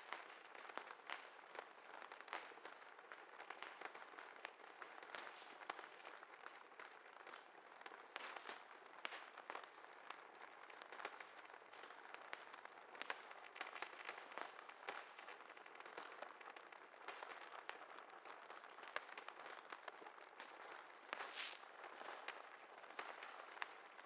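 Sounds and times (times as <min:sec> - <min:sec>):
faint fireworks popping and crackling: 0:00.0 - 0:24.0.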